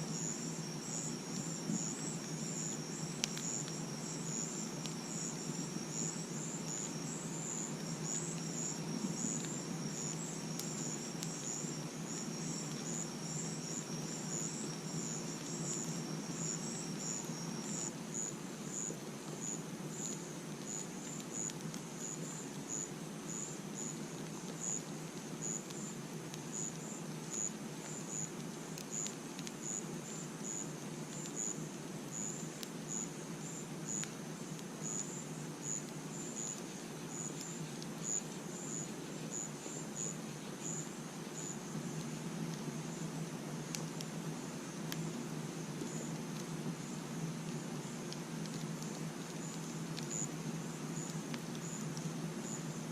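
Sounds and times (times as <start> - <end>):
crickets chirping: 0.0 - 52.9
high insect trill: 0.0 - 52.9
low background noise: 0.0 - 52.9
campfire popping: 0.1 - 22.7, 30.4 - 52.9.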